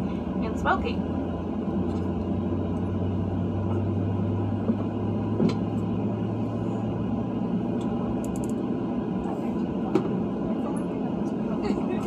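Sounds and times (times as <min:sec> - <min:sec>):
aircraft cabin drone: 0:00.0 - 0:12.0.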